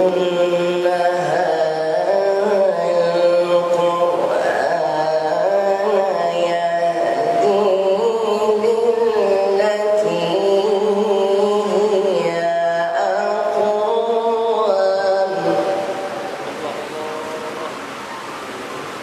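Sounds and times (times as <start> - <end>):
man chanting into a microphone: 0.0 - 17.9.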